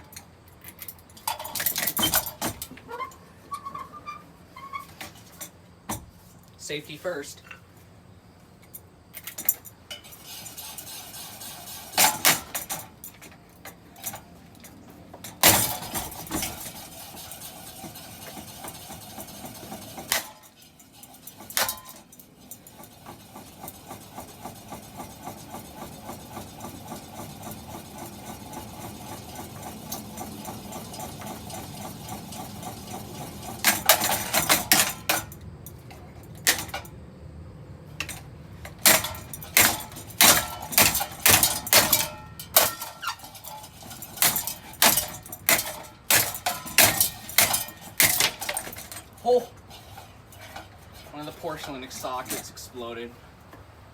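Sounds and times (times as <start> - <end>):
heavy tools clanking on metal: 0.0 - 7.8, 8.8 - 36.9, 38.0 - 53.6
ceiling fan running and rattling: 0.0 - 53.9.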